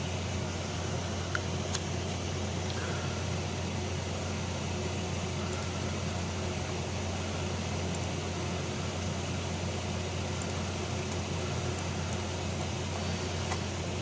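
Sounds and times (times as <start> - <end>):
computer cooling fans whirring: 0.0 - 14.0.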